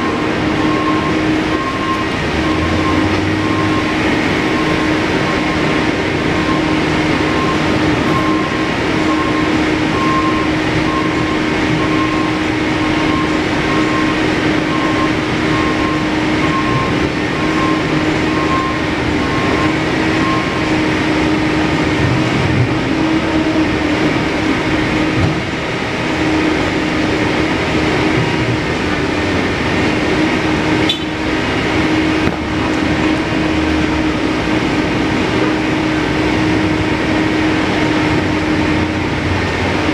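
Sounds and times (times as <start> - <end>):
loud mechanical hum: 0.0 - 39.9.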